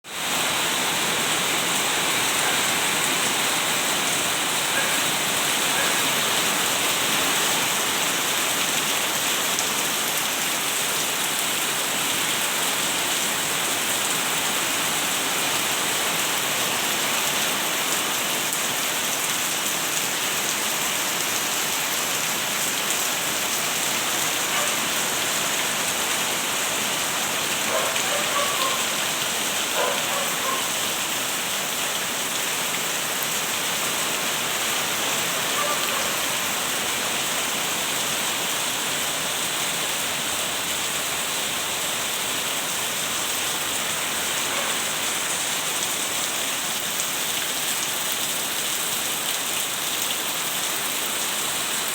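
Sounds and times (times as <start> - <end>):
heavy rain falling: 0.0 - 51.9.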